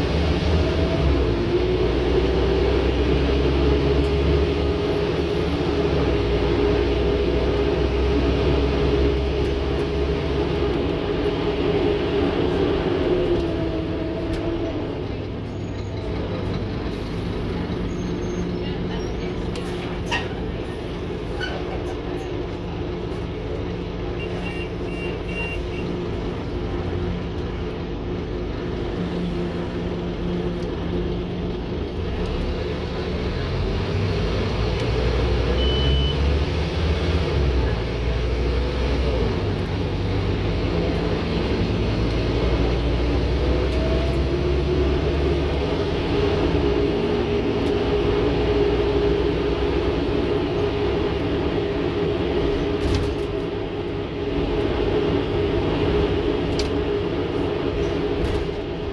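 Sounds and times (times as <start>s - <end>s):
bus diesel engine: 0.0s - 58.9s.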